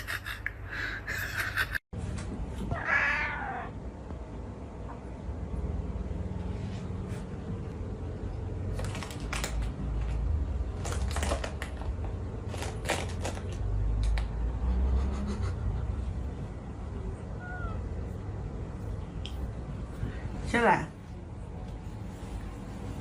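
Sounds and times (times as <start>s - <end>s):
steady low rumble: 2.0s - 23.0s.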